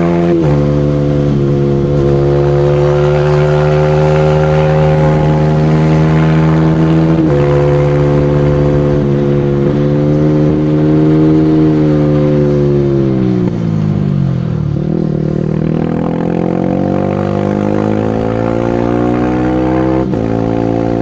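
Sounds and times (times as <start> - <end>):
motorcycle engine at high revs: 0.0 - 21.0.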